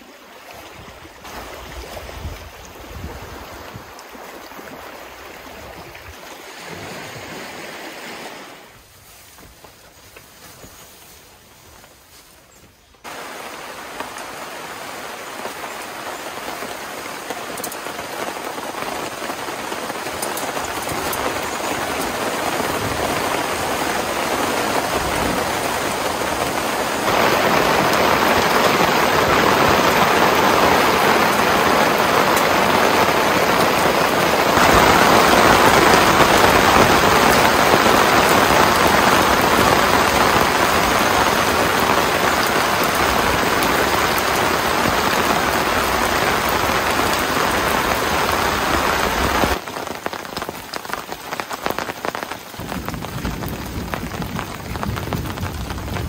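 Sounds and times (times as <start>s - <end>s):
heavy rain on a tarp: 0.0s - 12.4s, 13.0s - 56.0s.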